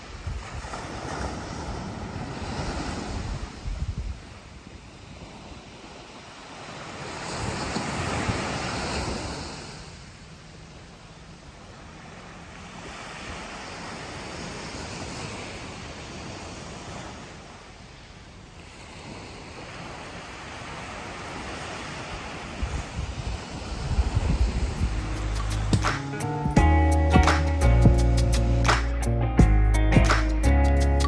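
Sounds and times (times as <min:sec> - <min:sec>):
waves washing up beach: 0:00.0 - 0:26.5.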